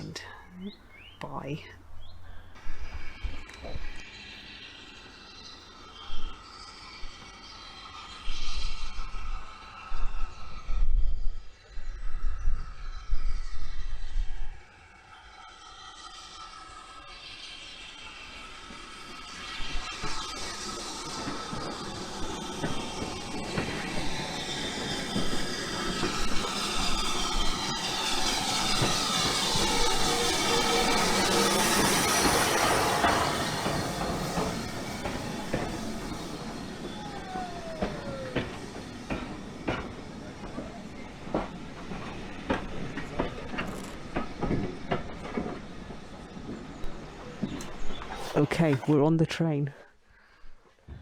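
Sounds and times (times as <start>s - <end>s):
high squeals gliding down: 0.0s - 50.4s
steam train running: 0.0s - 50.8s.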